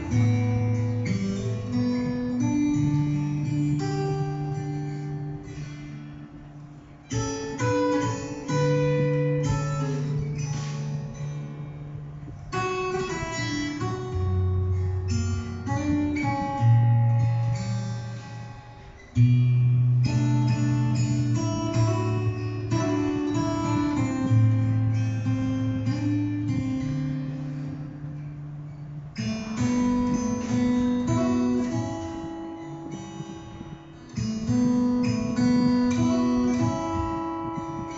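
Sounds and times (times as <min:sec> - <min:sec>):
acoustic guitar music: 0:00.0 - 0:37.9.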